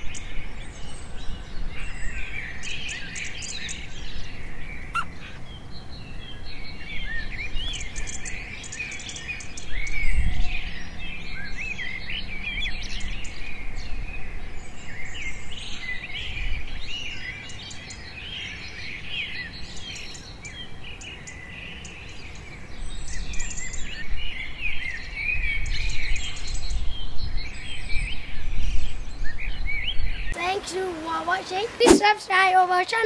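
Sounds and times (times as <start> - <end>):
birds chirping and twittering: 0.0 - 33.0.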